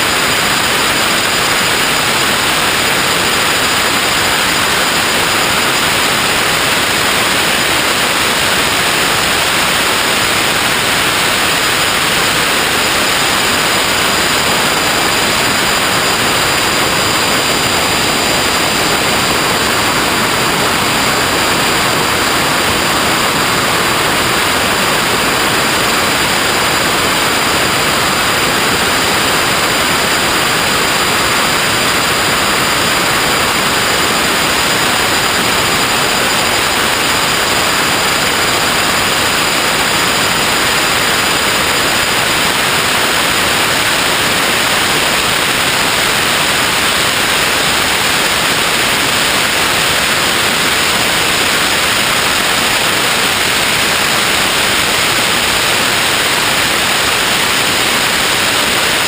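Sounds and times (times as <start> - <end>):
loud static hiss: 0.0 - 59.0.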